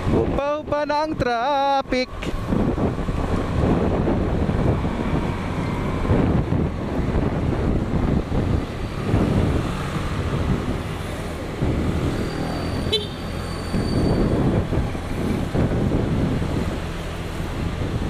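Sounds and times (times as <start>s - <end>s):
road and traffic noise: 0.0s - 18.0s.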